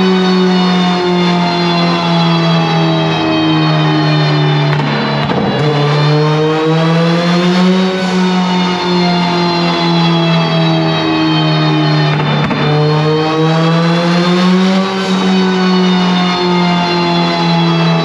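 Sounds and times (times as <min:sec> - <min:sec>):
turbocharged engine revving hard: 0:00.0 - 0:18.0.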